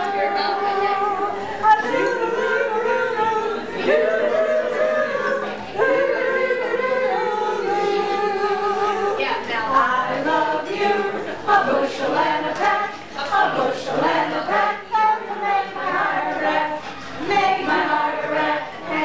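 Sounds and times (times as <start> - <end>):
group singing unaccompanied: 0.0 - 19.0.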